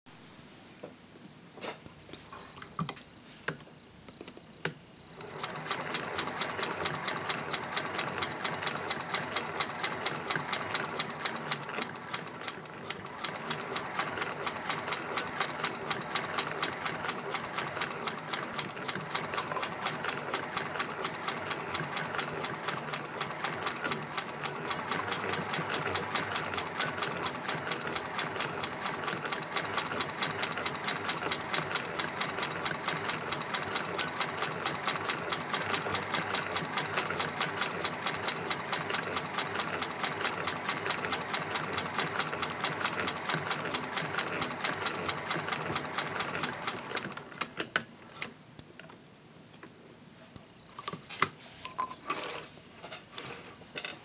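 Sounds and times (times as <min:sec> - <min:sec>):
sewing machine clatter: 0:05.1 - 0:48.3.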